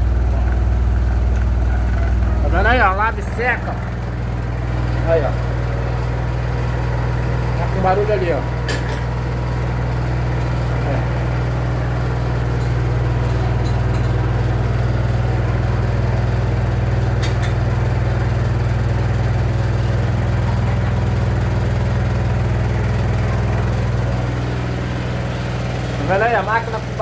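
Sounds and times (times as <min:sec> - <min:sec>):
washer-dryer droning and rattling: 0:00.0 - 0:27.0.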